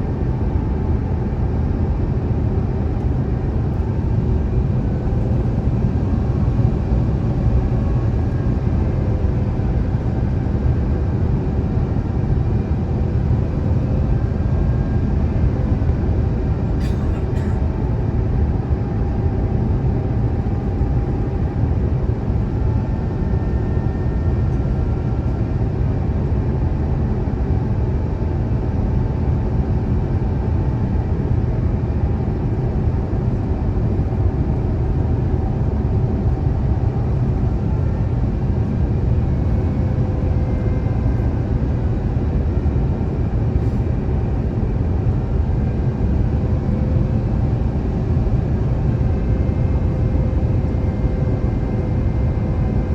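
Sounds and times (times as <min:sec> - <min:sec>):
airflow noise in aircraft cabin: 0:00.0 - 0:52.9.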